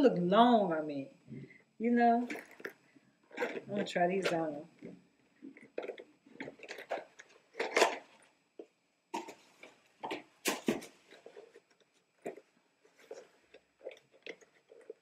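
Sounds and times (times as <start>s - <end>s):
shoe rustling and crinkling: 2.2s - 15.0s.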